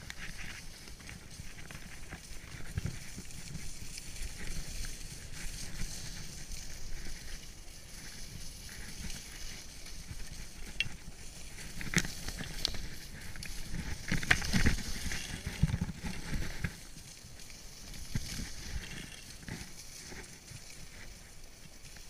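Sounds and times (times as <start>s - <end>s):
wind rumble on microphone: 0.0s - 22.0s
skis hissing on snow: 0.2s - 22.0s.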